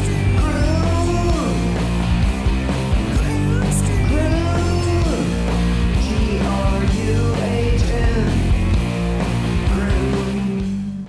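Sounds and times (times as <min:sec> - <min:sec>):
grunge rock song with guitar: 0:00.0 - 0:11.0.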